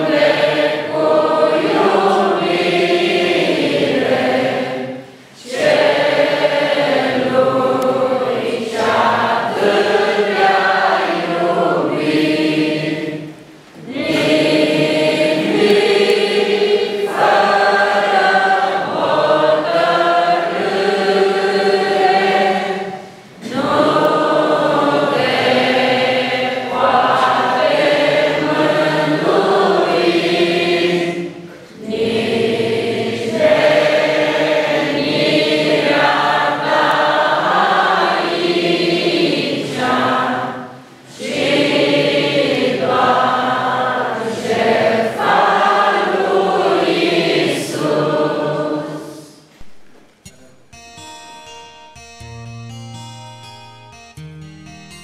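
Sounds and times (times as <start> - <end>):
congregation singing a hymn: 0.0 - 49.6.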